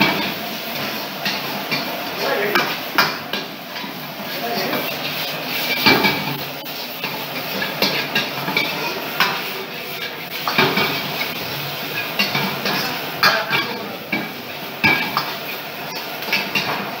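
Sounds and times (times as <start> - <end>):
steady sizzle from pan: 0.0 - 17.0.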